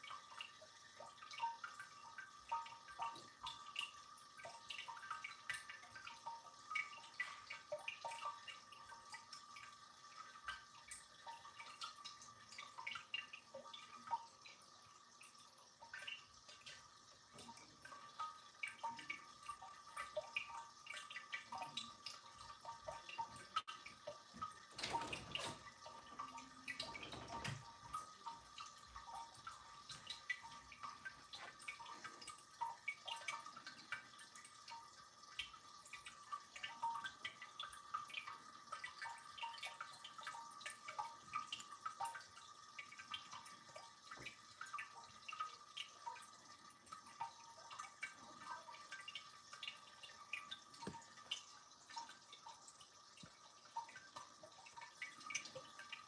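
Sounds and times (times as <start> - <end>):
fountain water trickling and dripping: 0.0 - 56.0.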